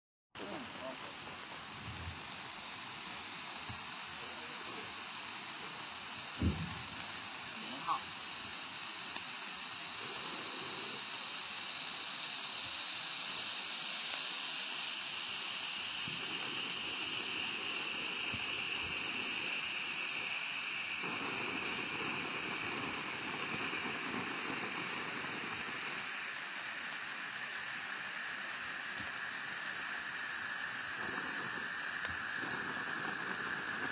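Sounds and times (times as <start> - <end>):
fountain candles hissing: 0.4 - 33.9.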